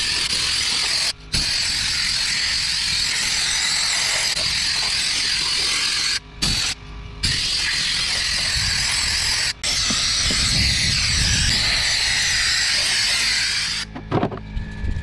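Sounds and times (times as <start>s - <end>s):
air blow gun hissing: 0.0s - 13.9s.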